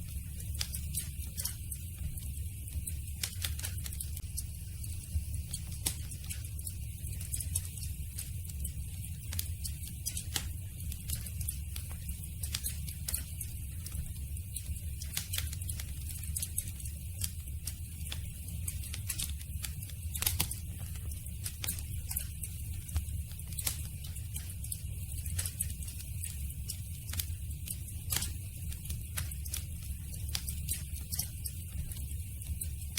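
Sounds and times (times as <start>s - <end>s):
low rumble of flames: 0.0s - 32.9s
campfire crackling and popping: 0.4s - 4.2s, 4.9s - 32.9s.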